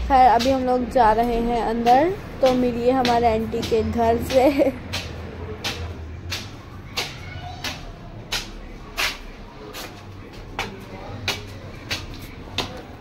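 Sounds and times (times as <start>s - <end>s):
footsteps climbing stairs: 0.0s - 13.0s.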